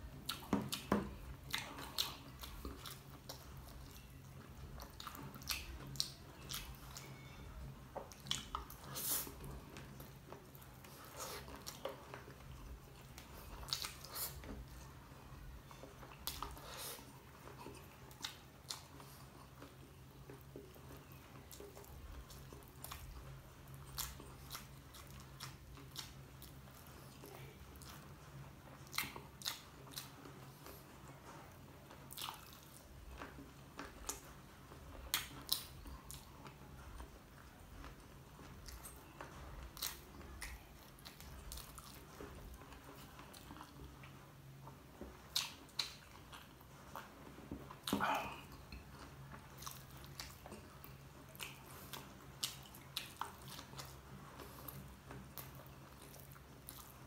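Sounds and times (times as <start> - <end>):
person chewing crunchy food: 0.0 - 31.2, 32.0 - 57.0
low steady hum: 0.0 - 57.0.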